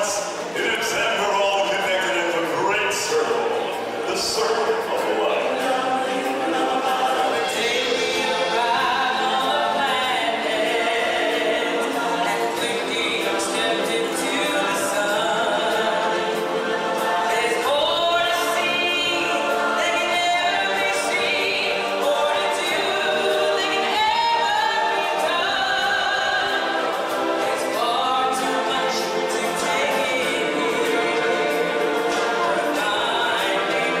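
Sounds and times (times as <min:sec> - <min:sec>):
choir singing with music: 0:00.0 - 0:34.0.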